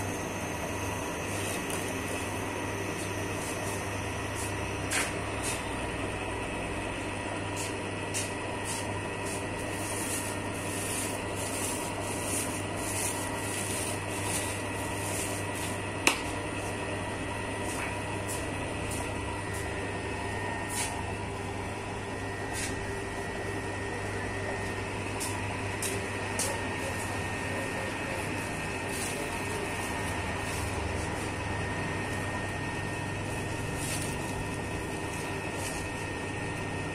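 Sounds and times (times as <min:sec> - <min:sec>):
dough mixer motor humming: 0:00.0 - 0:36.9.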